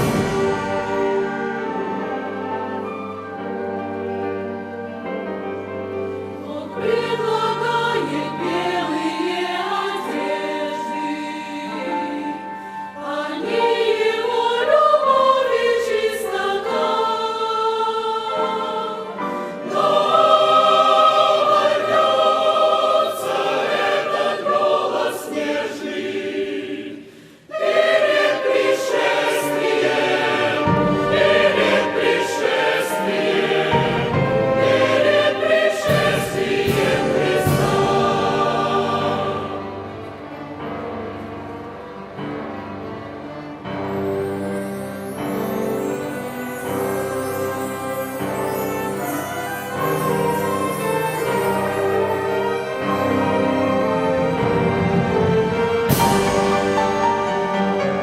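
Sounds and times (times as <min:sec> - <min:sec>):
choir singing a hymn: 0:00.0 - 0:58.0
orchestral accompaniment: 0:00.0 - 0:58.0.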